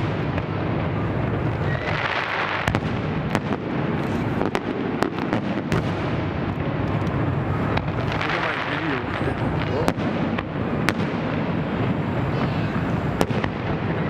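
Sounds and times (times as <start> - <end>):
fireworks crackling: 0.0 - 14.0
fireworks explosions rumbling: 0.0 - 14.0.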